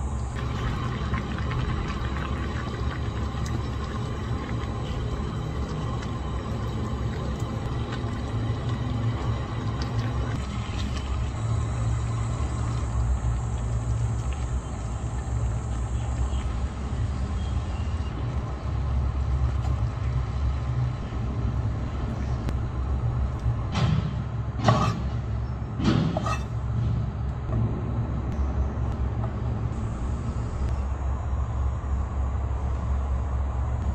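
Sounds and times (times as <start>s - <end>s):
steady low rumble: 0.0s - 33.9s.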